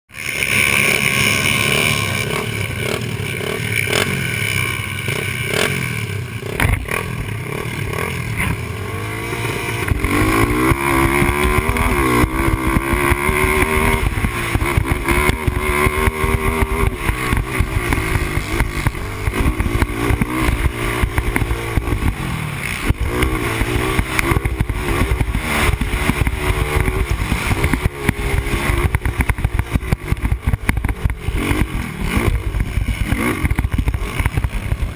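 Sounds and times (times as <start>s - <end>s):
quad bike engine revving: 0.1s - 34.9s.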